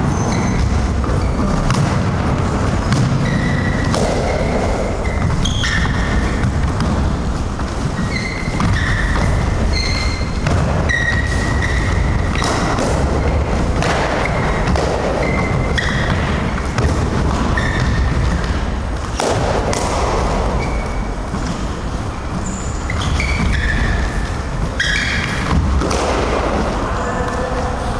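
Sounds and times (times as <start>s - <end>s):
sneakers squeaking on wooden floor: 0.0s - 27.7s.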